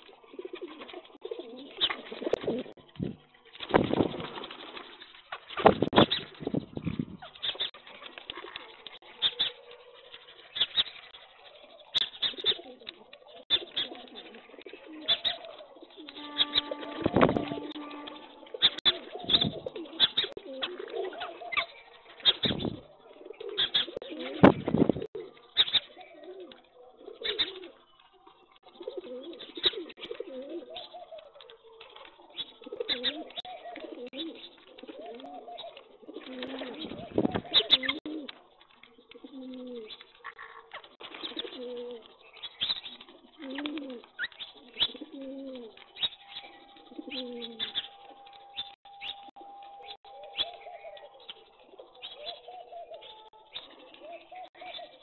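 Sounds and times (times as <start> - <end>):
beaks pecking on concrete: 0.0 - 6.6, 7.2 - 24.4, 25.1 - 55.0
pigeons cooing: 0.0 - 55.0.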